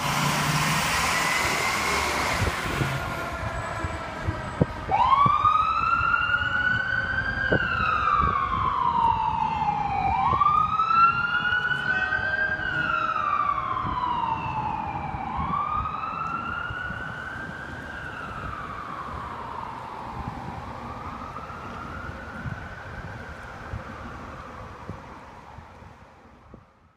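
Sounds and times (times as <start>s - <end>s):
emergency wail siren: 0.0s - 26.6s.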